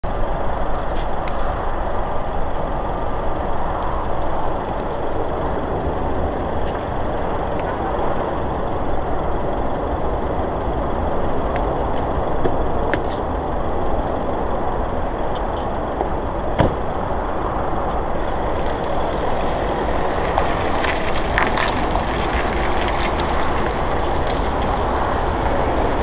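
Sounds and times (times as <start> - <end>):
jet airliner engines rumbling: 0.0 - 26.0.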